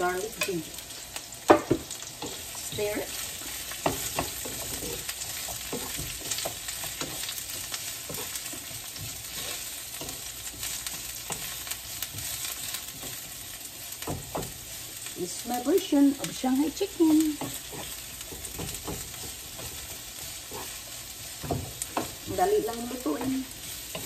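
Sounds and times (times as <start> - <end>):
onions sizzling in hot oil: 0.0 - 24.0
wooden spatula scraping a pan: 1.7 - 24.0.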